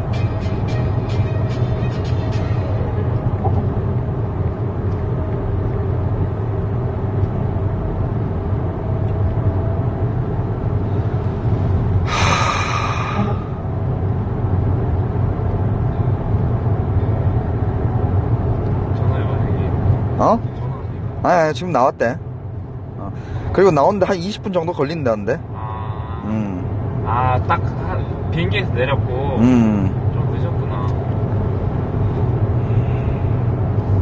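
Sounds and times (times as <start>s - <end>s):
vehicle rumble from inside: 0.0s - 34.0s.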